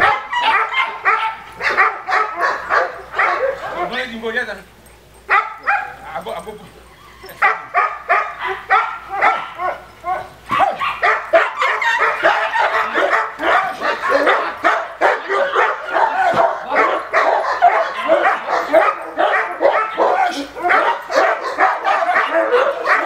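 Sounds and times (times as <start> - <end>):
dog barking rapidly: 0.0 - 4.0, 5.2 - 6.2, 7.4 - 23.0.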